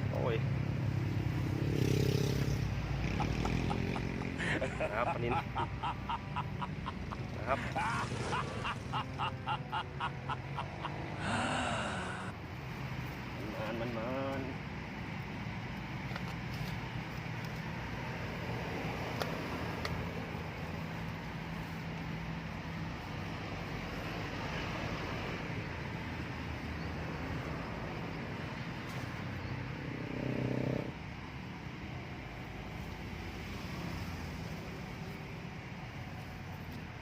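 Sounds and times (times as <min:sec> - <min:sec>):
passing traffic: 0:00.0 - 0:37.0.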